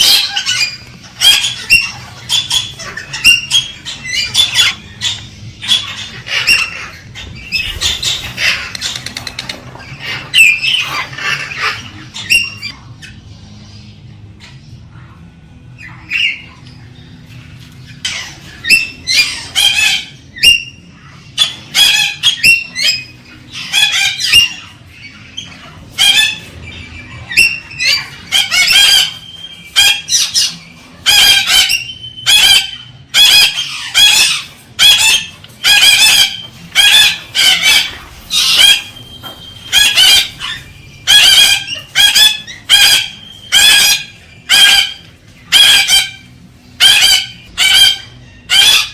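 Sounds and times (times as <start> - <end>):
cockatoo calling: 0.0 - 13.5, 14.3 - 48.9.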